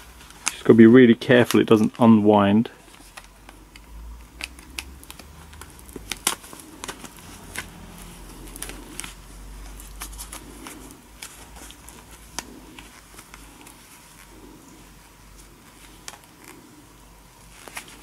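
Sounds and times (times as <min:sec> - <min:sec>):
gloved hands rustling: 0:00.0 - 0:18.0.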